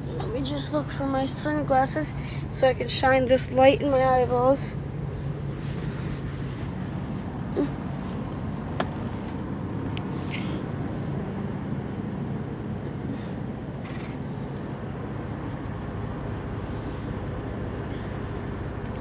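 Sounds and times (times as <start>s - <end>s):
air conditioning hum: 0.0s - 19.0s
truck engine idling: 0.0s - 19.0s.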